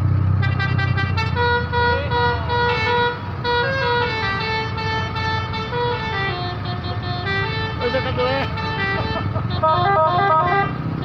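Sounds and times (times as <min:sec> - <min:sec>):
bus engine running: 0:00.0 - 0:11.0
musical air horn melody: 0:00.4 - 0:10.8.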